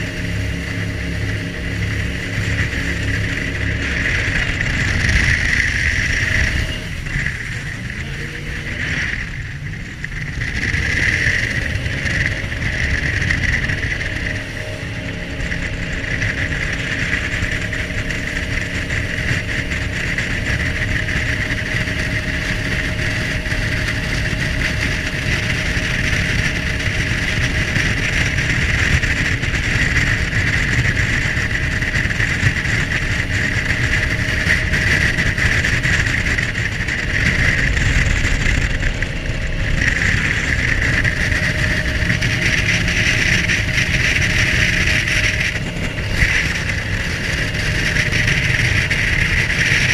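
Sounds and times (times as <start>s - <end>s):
jet boat engine: 0.0s - 49.9s
wind on microphone: 0.0s - 49.9s.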